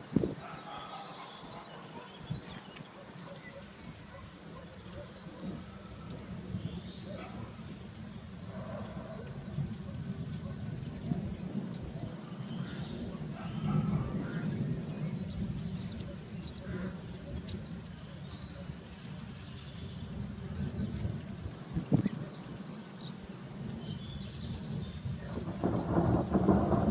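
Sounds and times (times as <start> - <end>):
cricket chirping: 0.1 - 26.9.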